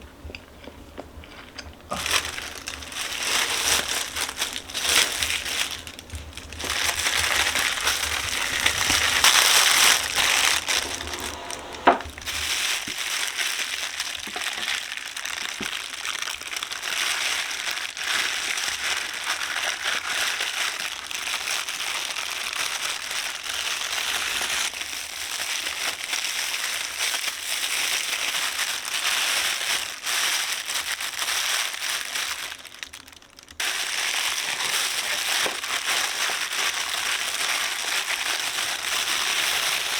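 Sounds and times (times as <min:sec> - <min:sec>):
crinkling and crackling: 0:00.0 - 0:39.9.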